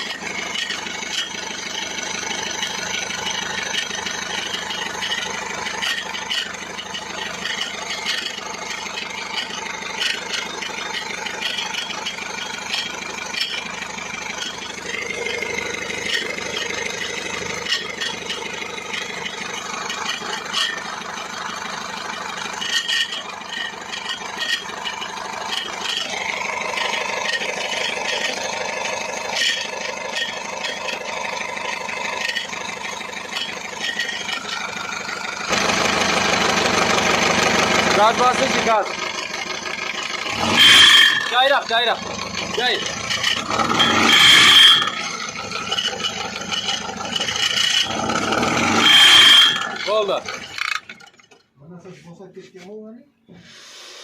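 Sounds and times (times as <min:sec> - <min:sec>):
diesel engine idling: 0:00.0 - 0:52.3.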